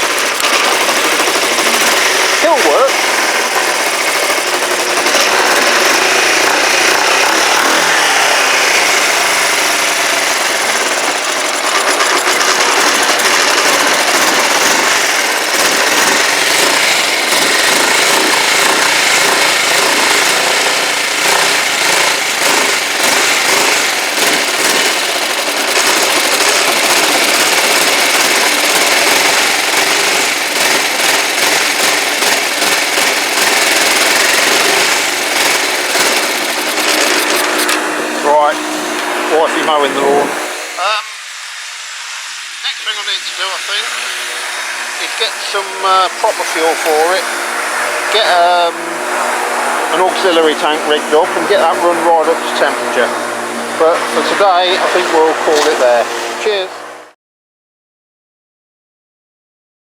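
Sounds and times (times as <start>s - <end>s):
motorcycle engine clattering: 0.0s - 40.7s, 44.8s - 56.9s.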